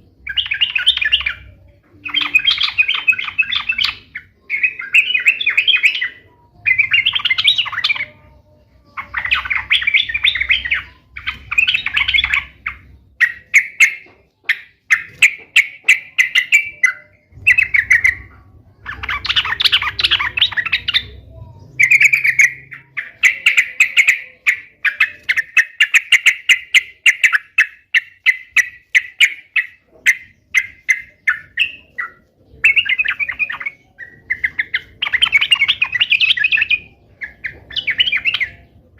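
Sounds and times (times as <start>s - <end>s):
bulbul singing chattering phrases: 0.0s - 38.9s.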